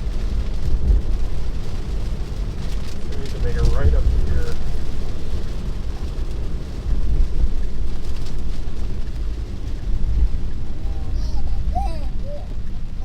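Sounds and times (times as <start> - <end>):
heavy rain rumble: 0.0 - 13.0
tyres on wet road: 0.0 - 13.0.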